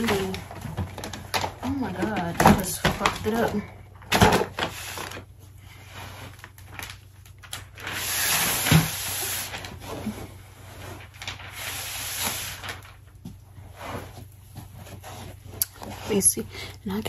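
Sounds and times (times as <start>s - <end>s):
wrapping rustling: 0.0s - 16.6s.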